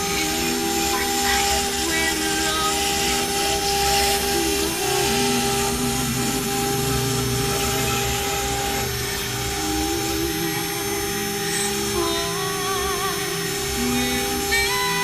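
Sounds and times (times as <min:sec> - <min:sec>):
axis motors shifting pitch: 0:00.0 - 0:15.0
cutter hissing: 0:00.0 - 0:15.0
router spindle whine: 0:00.0 - 0:15.0.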